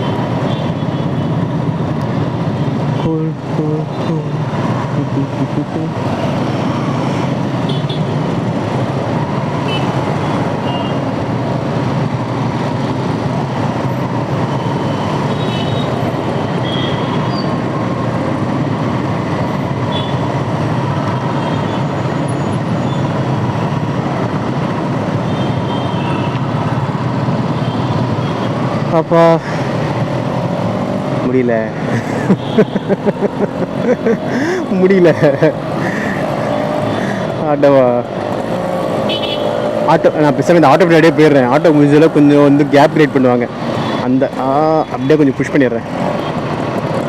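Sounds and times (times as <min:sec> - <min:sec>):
road noise: 0:00.0 - 0:47.0.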